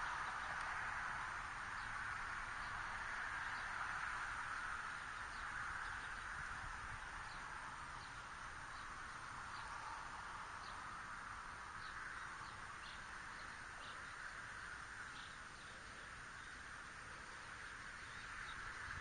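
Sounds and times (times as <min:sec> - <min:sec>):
small birds chirping: 0:00.0 - 0:19.0
steady hiss: 0:00.0 - 0:19.0.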